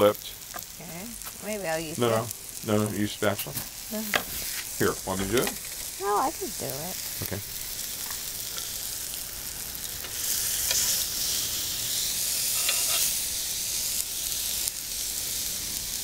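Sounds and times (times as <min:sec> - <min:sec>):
burgers sizzling on griddle: 0:00.0 - 0:16.0.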